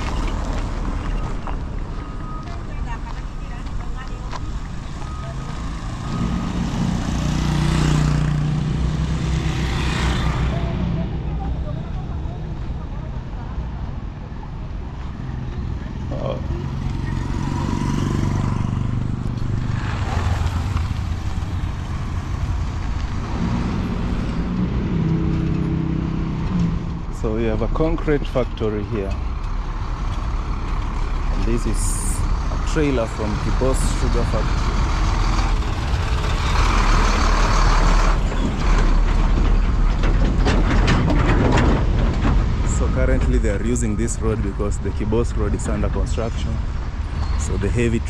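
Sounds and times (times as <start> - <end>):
heavy truck engine rumble: 0.0 - 48.0
tyre and road noise: 0.0 - 48.0
vehicles passing close by: 0.0 - 48.0.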